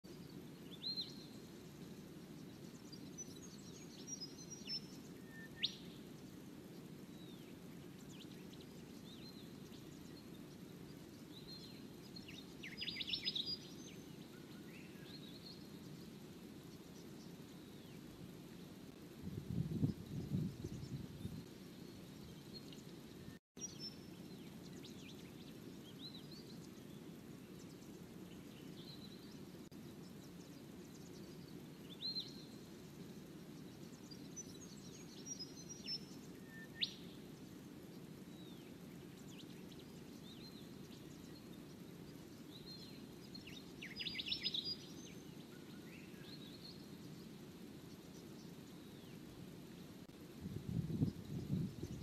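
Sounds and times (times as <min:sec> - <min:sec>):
steady low hiss: 0:00.0 - 0:52.0
small birds chirping and whistling: 0:00.1 - 0:50.1, 0:50.7 - 0:52.0.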